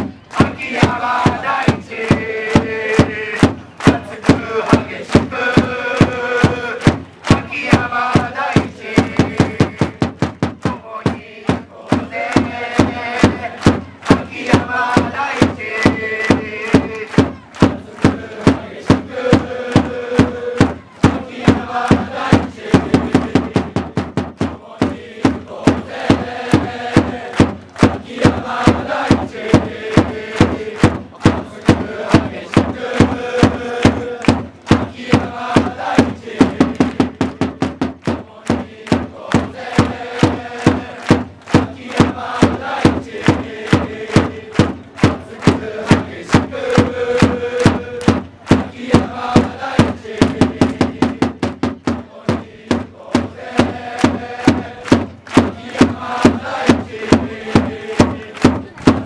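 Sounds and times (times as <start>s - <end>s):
crowd chanting: 0.0s - 59.0s
steady drumbeat: 0.0s - 59.0s.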